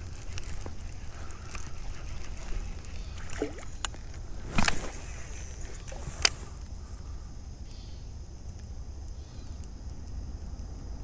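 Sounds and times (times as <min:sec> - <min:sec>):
low rumble of flowing water: 0:00.0 - 0:11.0.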